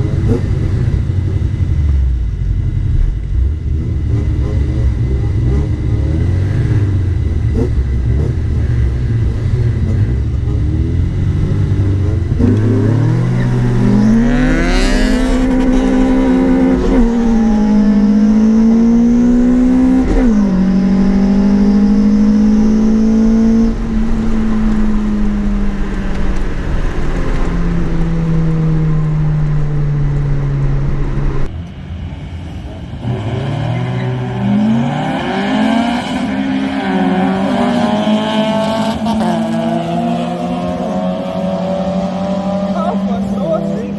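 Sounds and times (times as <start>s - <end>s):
car engine revving through gears: 0.0s - 1.6s, 3.0s - 31.8s, 32.8s - 43.9s.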